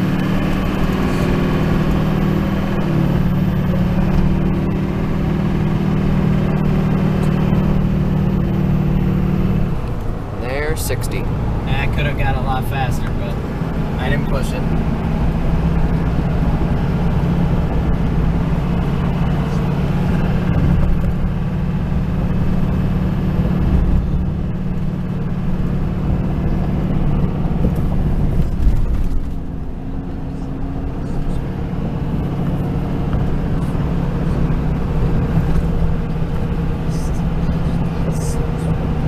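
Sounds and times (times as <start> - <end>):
engine and road noise drone: 0.0 - 39.0.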